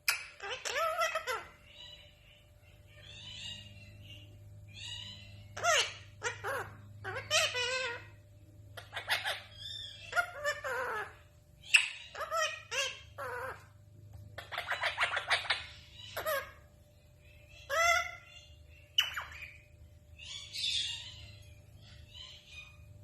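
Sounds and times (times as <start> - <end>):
parrot calling and chattering: 0.0 - 23.0.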